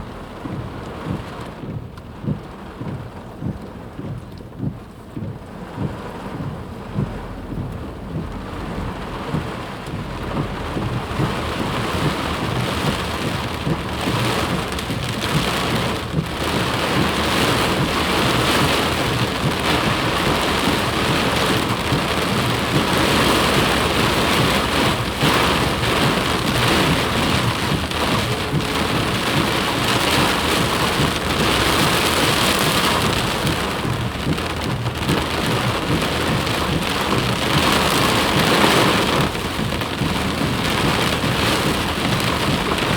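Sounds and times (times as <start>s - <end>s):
heavy rain and flood water hiss: 8.4s - 42.9s.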